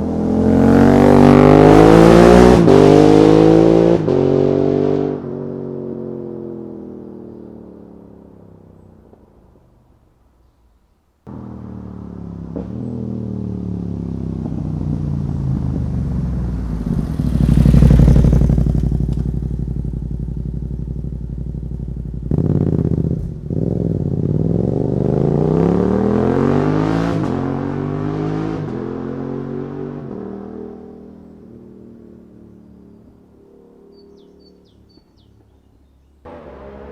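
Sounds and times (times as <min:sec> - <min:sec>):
motorcycle passing by: 0:00.0 - 0:09.2, 0:11.3 - 0:36.9.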